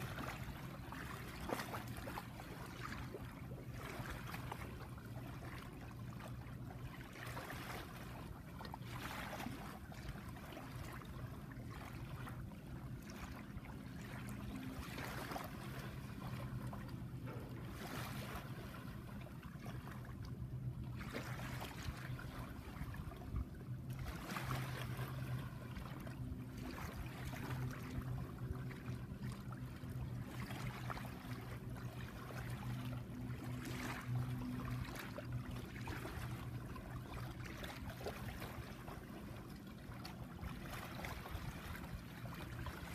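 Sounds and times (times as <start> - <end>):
steady low hum: 0.0 - 42.9
water lapping on sandy shore: 0.0 - 42.9.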